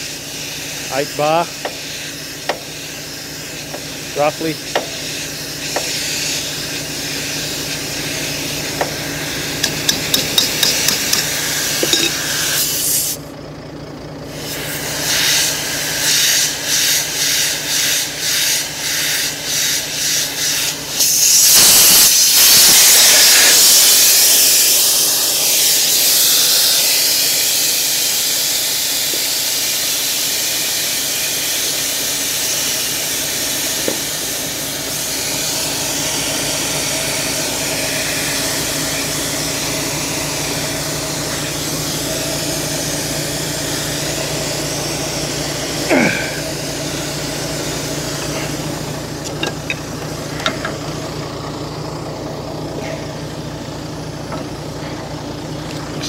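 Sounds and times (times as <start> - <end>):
compressed air hissing: 0.0 - 13.2, 14.3 - 51.2
diesel engine idling: 0.0 - 56.0.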